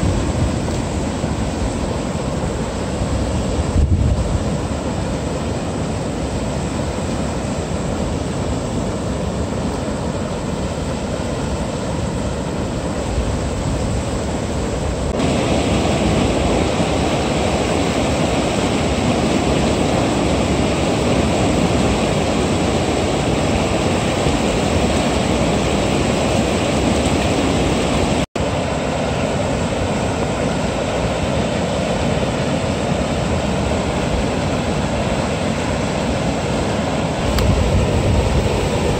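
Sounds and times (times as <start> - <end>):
water rushing over a weir: 0.0 - 38.9.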